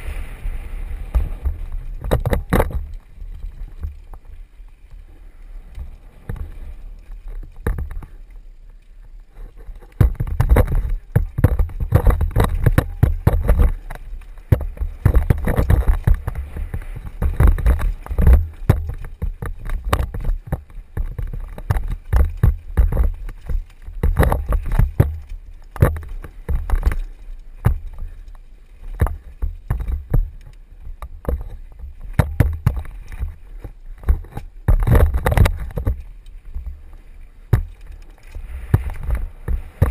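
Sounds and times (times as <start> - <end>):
mountain bike rattling over rocks: 0.0 - 39.9
wind rumbling on microphone: 0.0 - 39.9.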